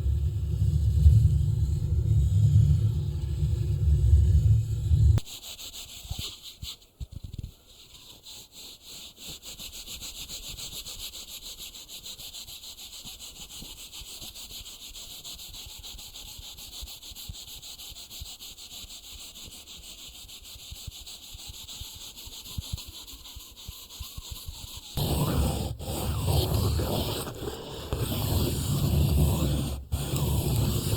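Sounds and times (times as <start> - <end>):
scratchy rubbing on microphone: 0.0 - 30.9.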